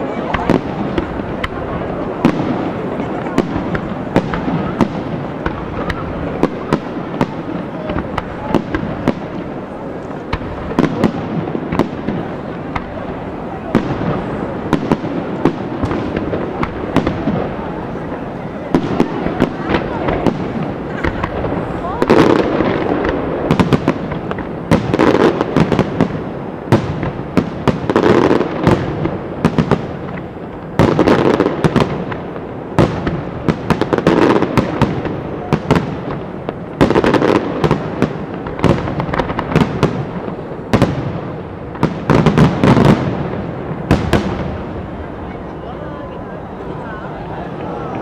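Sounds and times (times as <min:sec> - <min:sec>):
firework cracks: 0:00.0 - 0:48.0.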